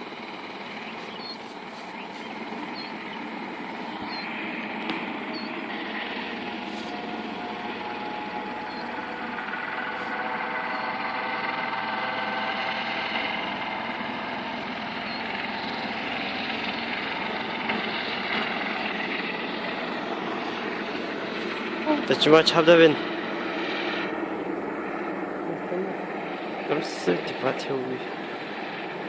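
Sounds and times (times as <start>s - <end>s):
helicopter drone: 0.0s - 29.0s.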